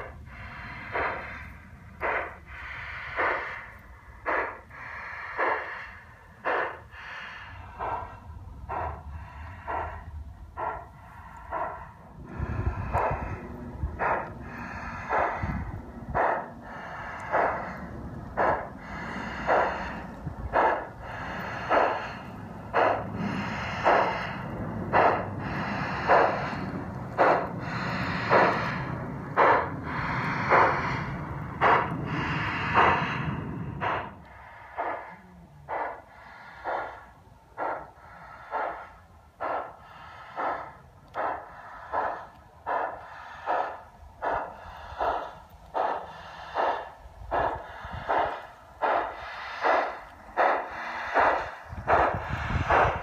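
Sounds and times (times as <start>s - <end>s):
model steam locomotive chuffing: 0.0s - 53.0s
model train rumbling on track: 0.0s - 53.0s.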